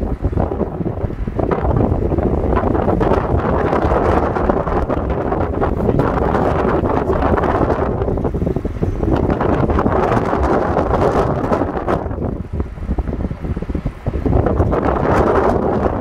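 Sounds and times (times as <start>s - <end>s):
vehicle rumble and tyres on road: 0.0s - 16.0s
wind buffeting microphone: 0.0s - 16.0s.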